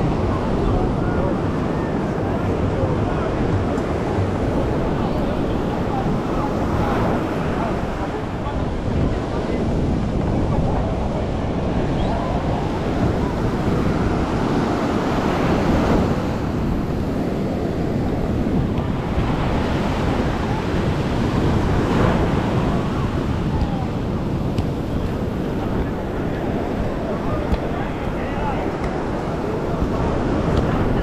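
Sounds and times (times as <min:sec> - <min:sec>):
ocean surf breaking on beach: 0:00.0 - 0:31.0
wind buffeting microphone: 0:00.0 - 0:31.0.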